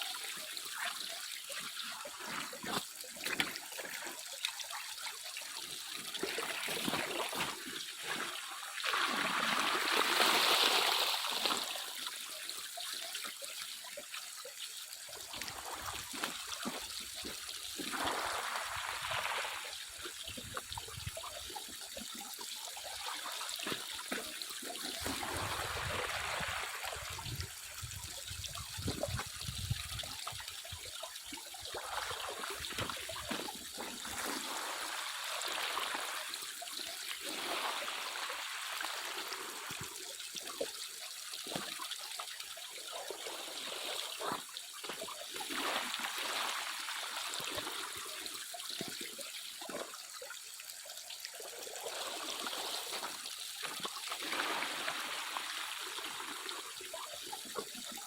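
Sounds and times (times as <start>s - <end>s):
water splashes: 0.0s - 58.0s
water trickling: 0.0s - 58.0s.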